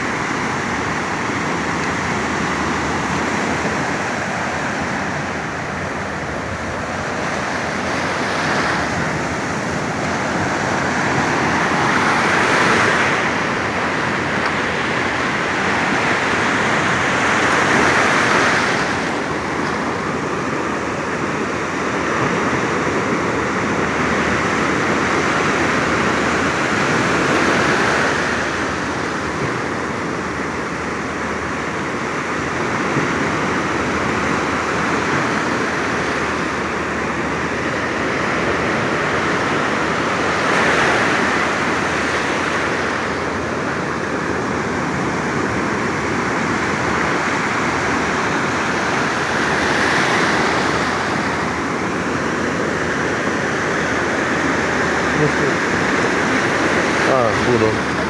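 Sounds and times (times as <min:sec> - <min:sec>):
stormy surf breaking waves: 0:00.0 - 0:58.0.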